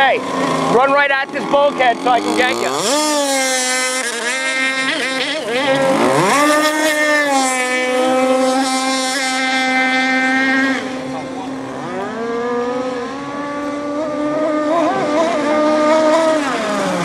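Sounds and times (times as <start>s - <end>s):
rc speedboat engine whining: 0.0s - 17.0s.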